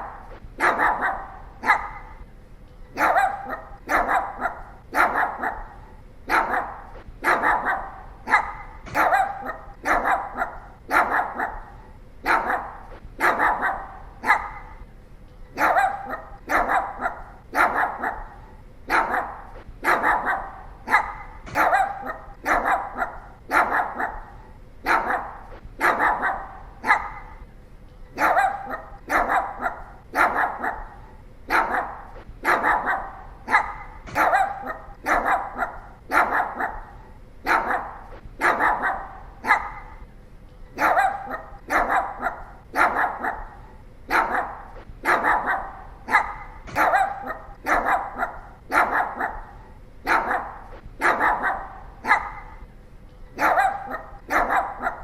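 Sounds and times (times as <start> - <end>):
dog barking: 0.0 - 2.3, 3.0 - 14.8, 15.5 - 27.5, 28.2 - 40.0, 40.8 - 52.7, 53.4 - 55.0.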